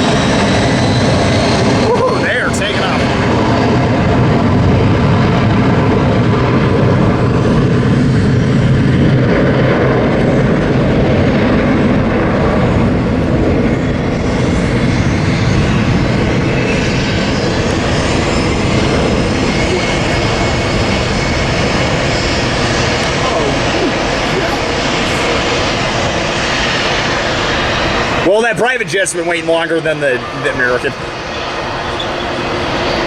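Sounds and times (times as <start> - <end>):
jet engines roaring at takeoff: 0.0 - 33.0.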